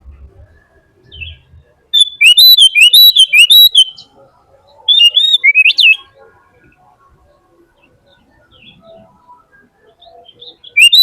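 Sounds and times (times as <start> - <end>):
bird singing: 0.2 - 11.0.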